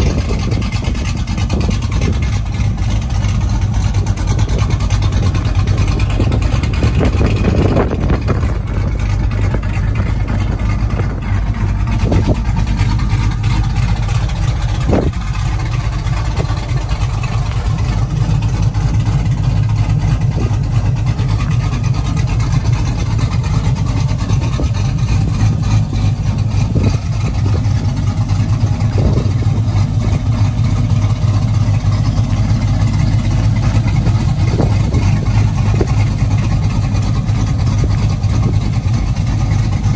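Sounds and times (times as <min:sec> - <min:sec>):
truck engine idling deep rumble: 0:00.0 - 0:39.9.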